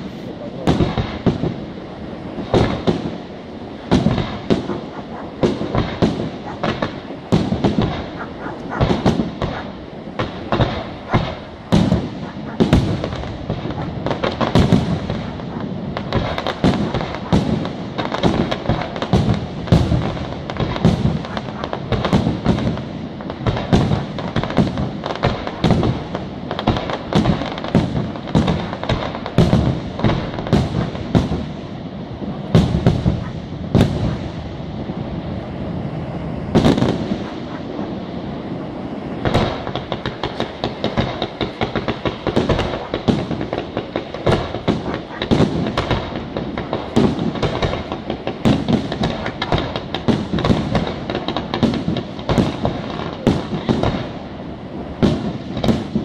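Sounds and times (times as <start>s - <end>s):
fireworks bangs: 0.0s - 56.0s
fireworks rumble: 0.0s - 56.0s.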